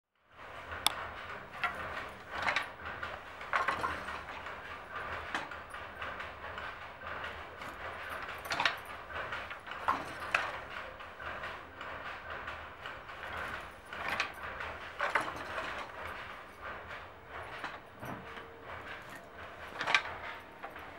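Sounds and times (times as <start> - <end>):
low background hum: 0.4 - 20.9
wooden loom clacking: 0.6 - 20.9.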